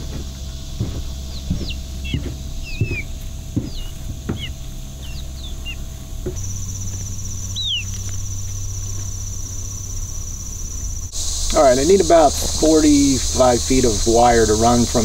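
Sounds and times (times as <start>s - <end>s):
high falling bird chirps: 0.0s - 15.0s
high insect trill: 0.0s - 15.0s
low steady hum: 0.0s - 15.0s.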